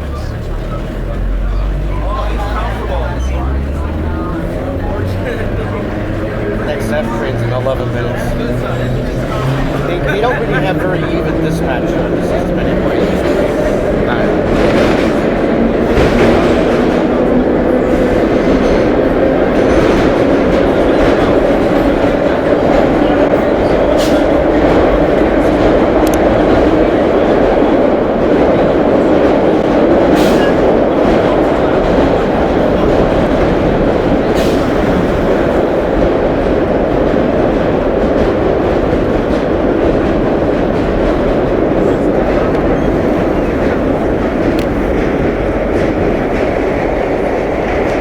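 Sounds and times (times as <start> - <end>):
subway train wheels on rails: 0.0 - 48.0.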